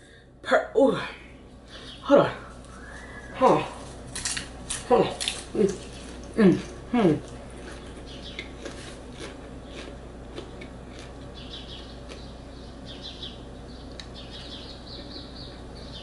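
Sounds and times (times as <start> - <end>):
low steady hum: 0.0 - 16.0
popcorn chewing crunches: 2.6 - 15.5.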